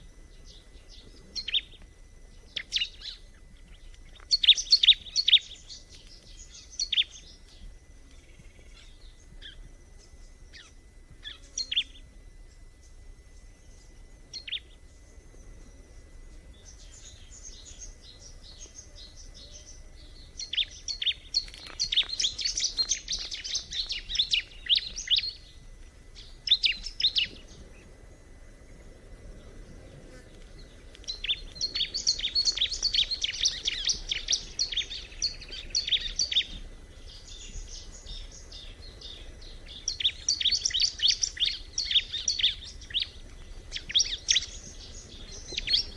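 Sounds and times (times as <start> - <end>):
bird singing high chirps: 0.3 - 15.7, 16.5 - 25.6, 26.2 - 27.9, 30.7 - 45.9.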